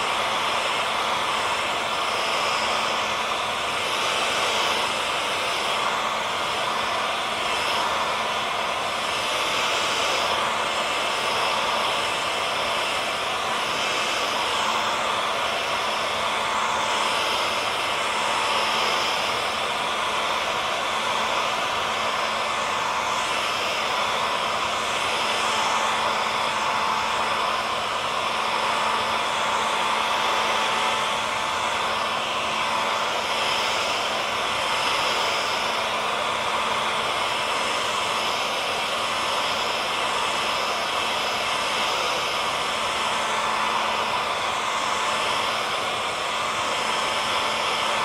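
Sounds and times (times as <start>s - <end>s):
hair dryer blowing air: 0.0s - 48.0s.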